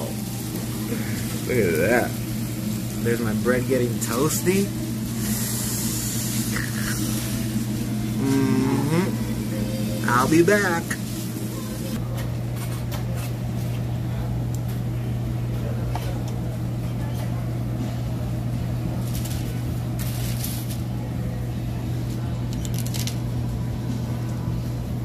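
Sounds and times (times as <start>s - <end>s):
kitchen equipment humming: 0.0s - 25.0s.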